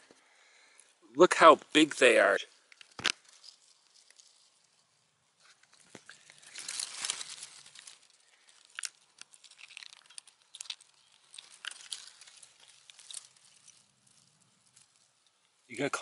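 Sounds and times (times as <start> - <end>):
dry leaves rustling and crackling: 2.5 - 16.0.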